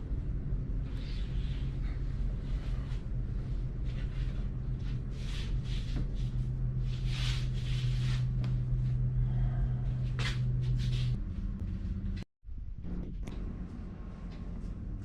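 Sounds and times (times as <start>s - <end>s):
engine room machinery hum: 0.0s - 15.0s.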